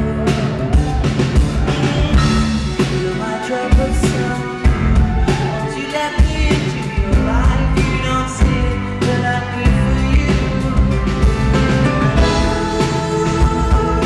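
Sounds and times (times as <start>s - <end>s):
live dance-pop band: 0.0s - 14.0s
person singing lead vocal: 0.0s - 14.0s.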